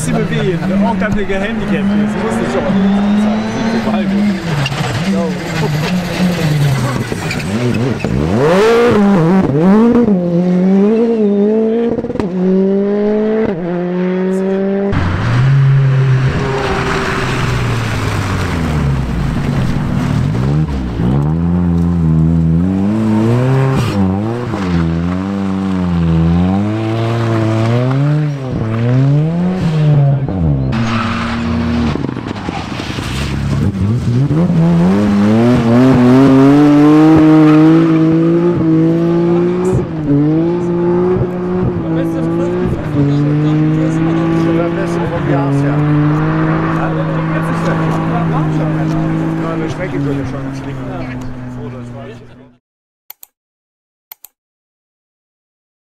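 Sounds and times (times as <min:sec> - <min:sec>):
rally car engines revving: 0:00.0 - 0:52.6.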